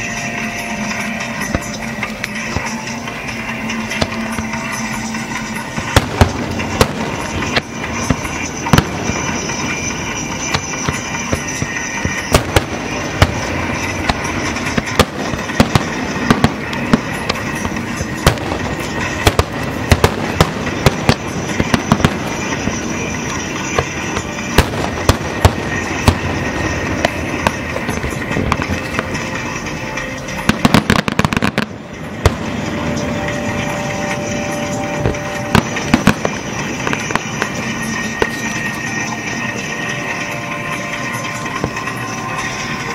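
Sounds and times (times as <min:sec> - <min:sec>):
fireworks shells bursting: 0:00.0 - 0:42.9.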